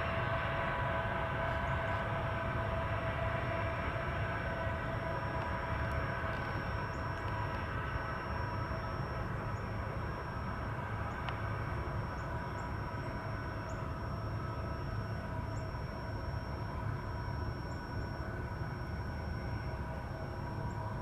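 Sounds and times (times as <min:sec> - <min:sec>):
diesel locomotive rumble: 0:00.0 - 0:21.0
steady whine: 0:00.0 - 0:21.0.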